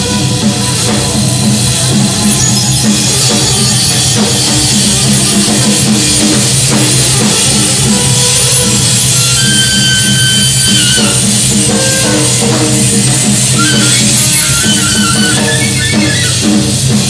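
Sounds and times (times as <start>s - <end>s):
drum kit: 0.0s - 17.0s
electronic noise music: 0.0s - 17.0s
saxophone: 0.0s - 17.0s.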